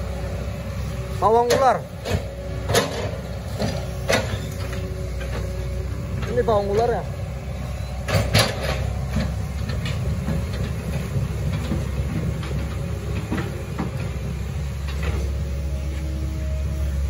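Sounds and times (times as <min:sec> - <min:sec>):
excavator running: 0:00.0 - 0:17.0.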